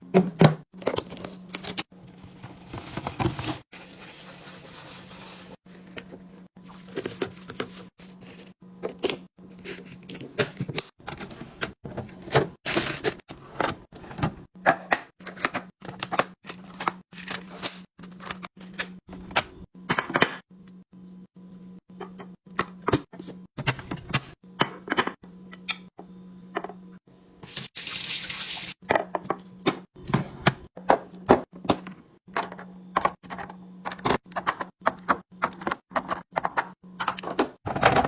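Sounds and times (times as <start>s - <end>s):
fridge hum: 0.0s - 38.0s.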